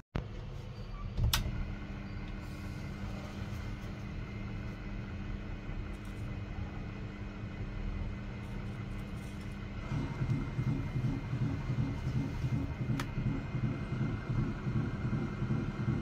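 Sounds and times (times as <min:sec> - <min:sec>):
lathe humming: 0:01.8 - 0:16.0.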